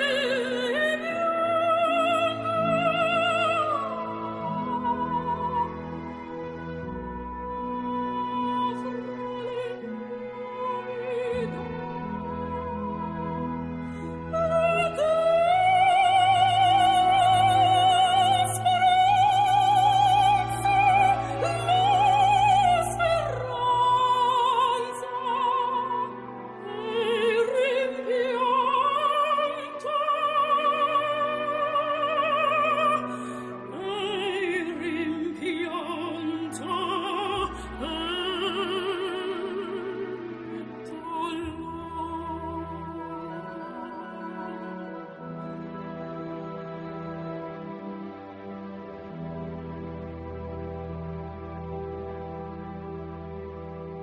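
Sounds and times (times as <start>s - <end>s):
person singing opera: 0.0s - 48.3s
soft sustained accompaniment: 0.0s - 54.0s.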